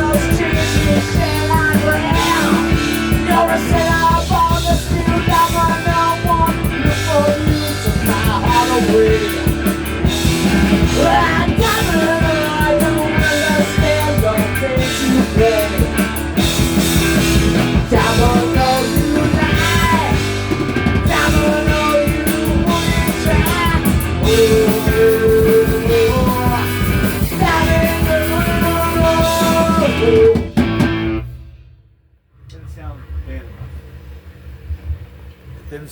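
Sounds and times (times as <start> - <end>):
rock band playing instrumental: 0.0 - 31.7.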